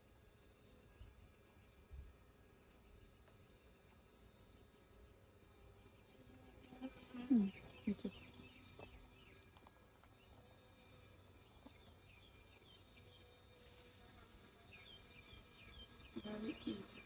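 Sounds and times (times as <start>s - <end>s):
honeybees humming: 0.3s - 17.0s.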